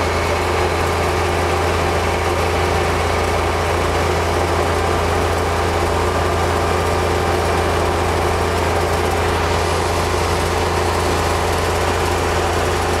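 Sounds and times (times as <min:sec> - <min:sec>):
snow blower throwing snow: 0:00.0 - 0:13.0
tractor engine running: 0:00.0 - 0:13.0.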